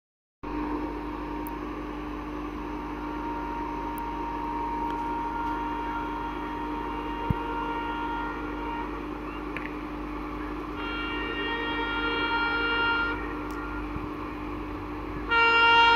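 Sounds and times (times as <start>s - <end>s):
machine hum with two tones: 0.4s - 15.9s.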